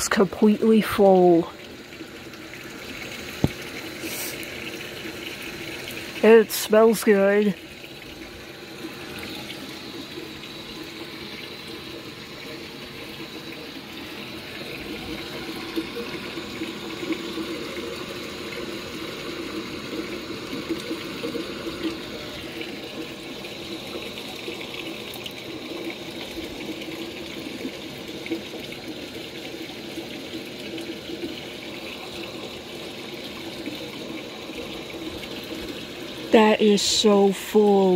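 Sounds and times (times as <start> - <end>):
faint steady hum: 0.0 - 37.9
water pouring into washing machine: 0.0 - 37.9.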